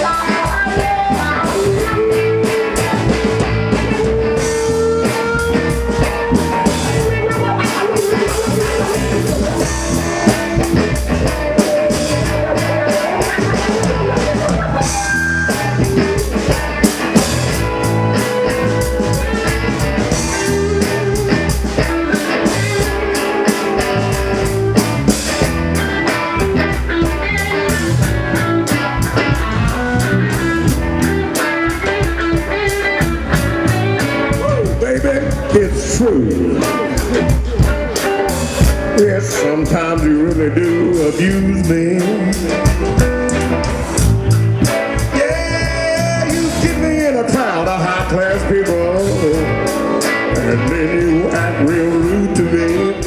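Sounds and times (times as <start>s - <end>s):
drum kit steady beat: 0.0s - 53.0s
guitar: 0.0s - 53.0s
rockabilly blues band playing: 0.0s - 53.0s.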